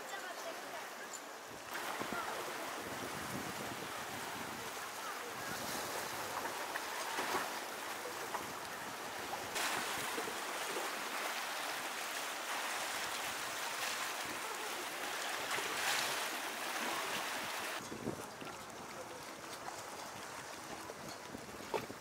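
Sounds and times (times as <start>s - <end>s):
sea surf washing on shore: 0.0s - 22.0s.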